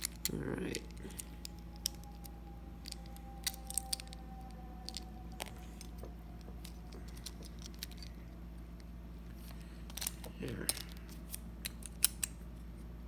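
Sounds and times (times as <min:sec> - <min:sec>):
toy car parts clicking: 0:00.0 - 0:08.2, 0:09.9 - 0:12.3.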